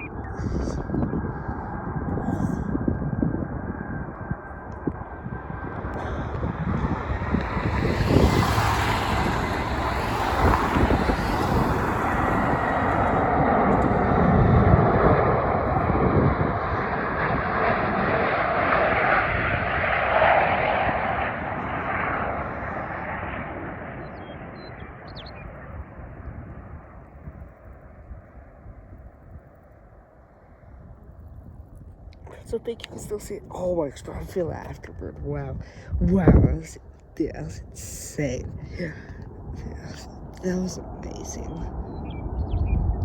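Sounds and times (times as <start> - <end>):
jet airliner engines rumbling: 0.0 - 43.0.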